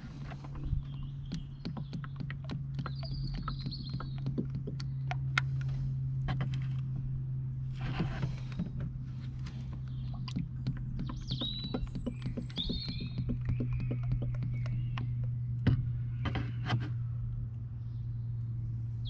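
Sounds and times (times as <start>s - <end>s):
small clicks and gurgles: 0.0s - 7.0s, 7.7s - 17.4s
steady low hum: 0.0s - 19.0s.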